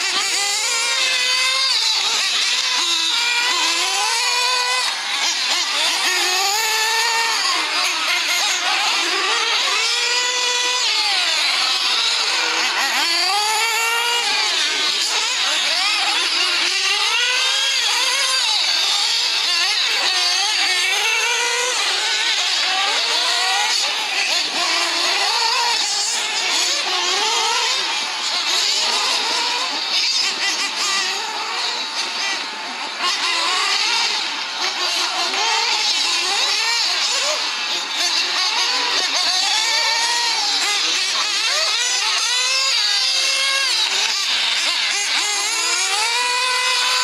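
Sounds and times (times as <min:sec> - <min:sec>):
rc car engines revving: 0:00.0 - 0:47.0.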